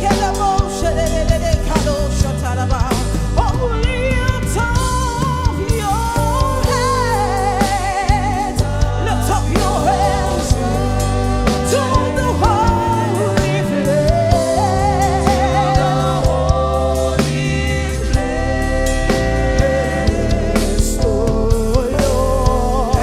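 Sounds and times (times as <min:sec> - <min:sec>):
bass line: 0:00.0 - 0:23.0
drums: 0:00.0 - 0:23.0
person singing with vibrato: 0:00.0 - 0:23.0.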